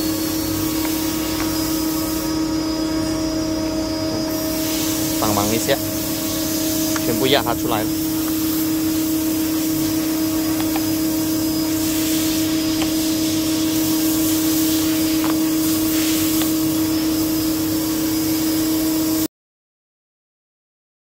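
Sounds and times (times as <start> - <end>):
vacuum blower humming and hissing: 0.0 - 19.3.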